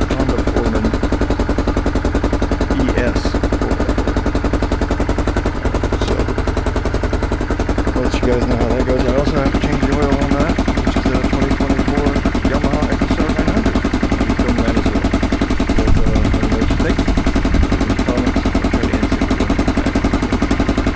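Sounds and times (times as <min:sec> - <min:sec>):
atv engine idling: 0:00.0 - 0:20.9.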